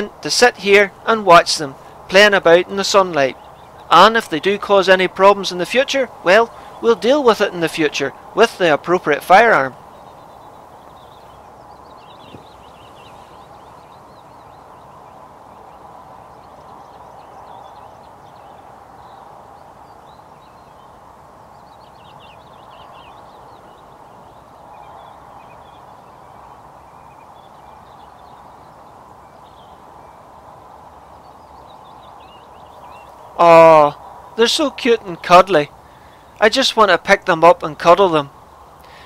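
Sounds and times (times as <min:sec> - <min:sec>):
songbirds twittering: 0:00.0 - 0:39.0
steady background hiss: 0:00.0 - 0:39.0.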